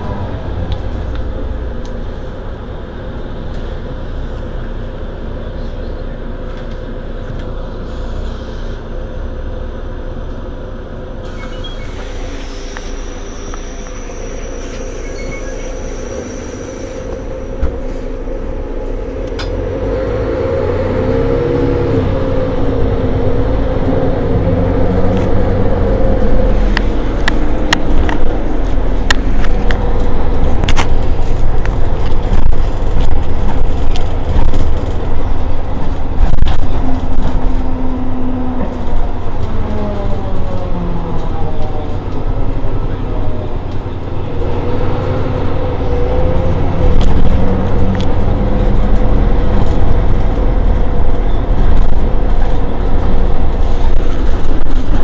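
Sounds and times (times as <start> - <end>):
bus diesel engine idling: 0.0 - 19.7, 22.1 - 55.0.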